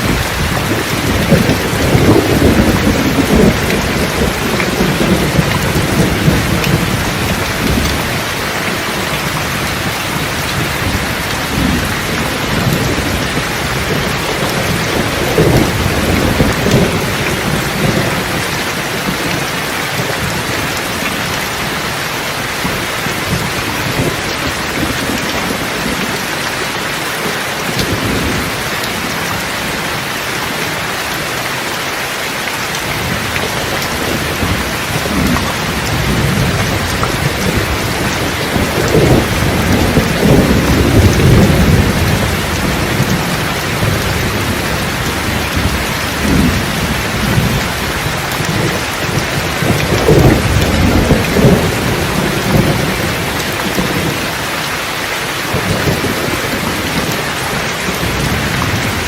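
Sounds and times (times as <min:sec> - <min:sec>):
thunder rumbling: 0:00.0 - 0:30.1, 0:32.7 - 0:59.0
heavy rain: 0:00.0 - 0:59.0.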